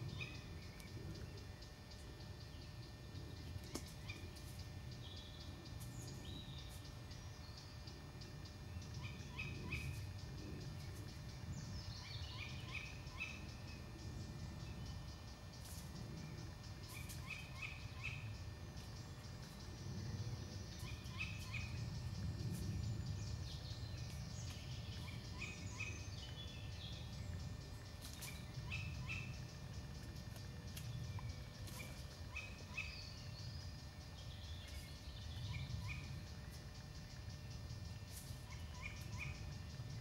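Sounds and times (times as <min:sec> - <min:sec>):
bird chirping: 0:00.0 - 0:40.0
low steady rumble: 0:00.0 - 0:40.0.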